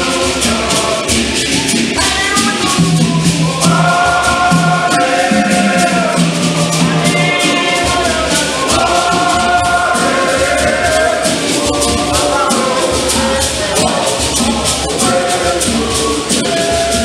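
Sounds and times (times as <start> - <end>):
gourd rattles shaken: 0.0 - 17.0
men's choir singing a hymn: 0.0 - 17.0.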